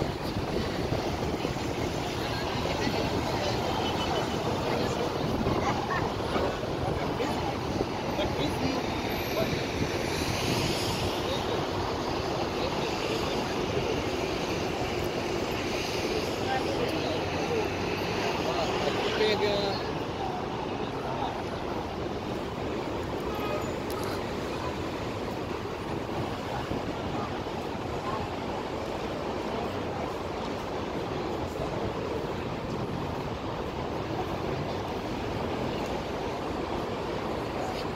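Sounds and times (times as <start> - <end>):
faint crowd voices: 0.0 - 37.9
road traffic din: 0.0 - 37.9.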